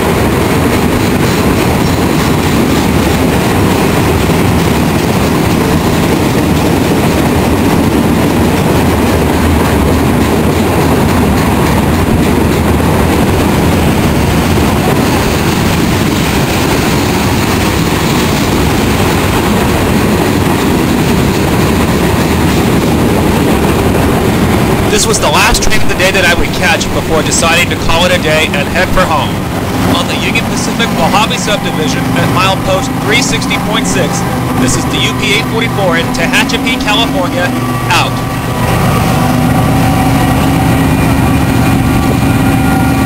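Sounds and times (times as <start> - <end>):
freight train cars rolling: 0.0 - 43.0.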